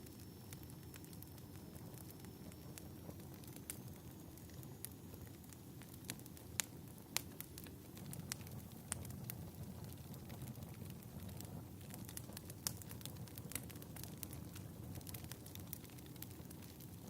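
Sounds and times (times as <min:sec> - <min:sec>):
wood fire crackling: 0:00.0 - 0:17.0
sharp pops of fire: 0:00.1 - 0:17.0.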